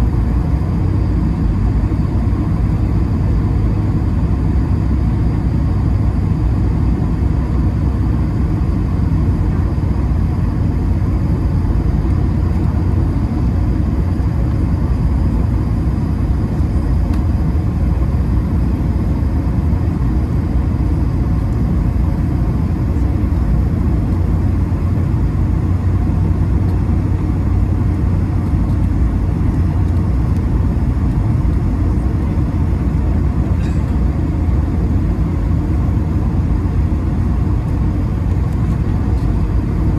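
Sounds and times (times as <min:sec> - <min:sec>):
airliner cabin low rumble: 0:00.0 - 0:39.9
faint turbofan whining tones: 0:00.0 - 0:39.9.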